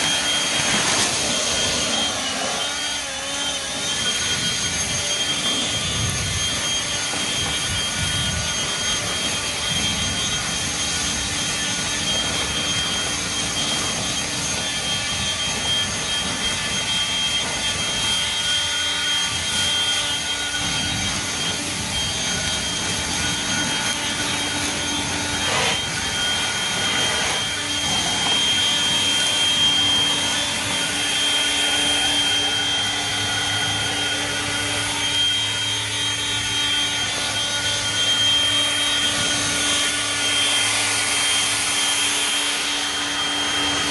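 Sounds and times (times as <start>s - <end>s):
leaf blower running: 0.0s - 43.9s.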